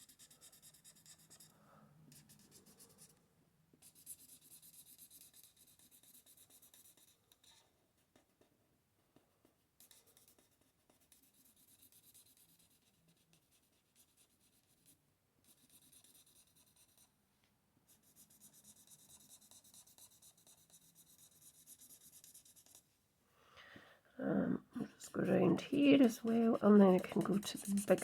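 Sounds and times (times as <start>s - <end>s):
marker scratching on paper: 0.0s - 1.5s, 2.1s - 3.1s, 3.8s - 8.4s, 9.2s - 17.1s, 17.9s - 22.8s, 24.8s - 28.0s.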